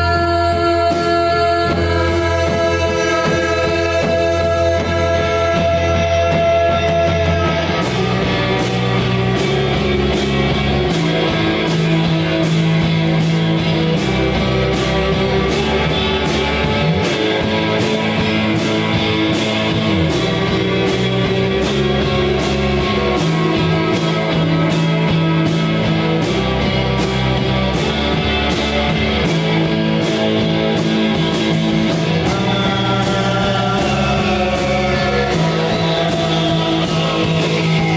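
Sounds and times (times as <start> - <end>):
bass notes: 0.0 - 37.9
drums playing steady beat: 0.0 - 37.9
guitar: 0.0 - 37.9.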